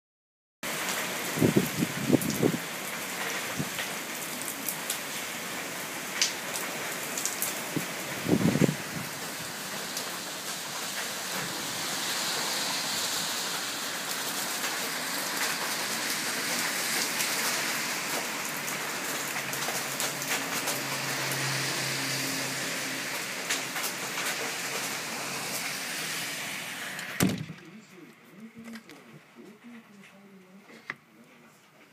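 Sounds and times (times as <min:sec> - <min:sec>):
heavy rain pouring: 0:00.6 - 0:30.9
raindrops ticking on surfaces: 0:00.7 - 0:31.9.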